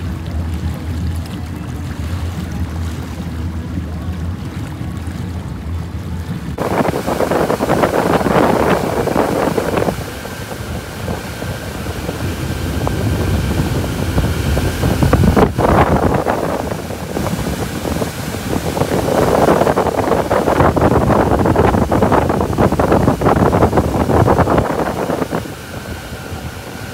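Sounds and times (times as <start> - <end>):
motorboat engine drone: 0.0 - 26.9
rush of churning wake: 0.0 - 26.9
wind buffeting microphone: 0.0 - 26.9.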